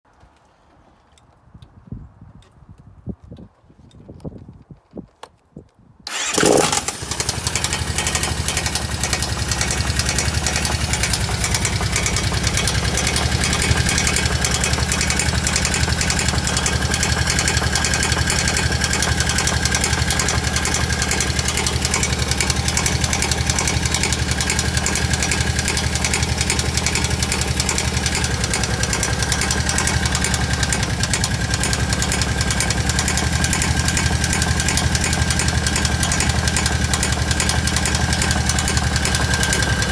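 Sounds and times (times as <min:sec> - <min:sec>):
engine starting: 0:06.1 - 0:31.3, 0:32.1 - 0:39.9
engine idling with rapid knocking: 0:06.1 - 0:39.9.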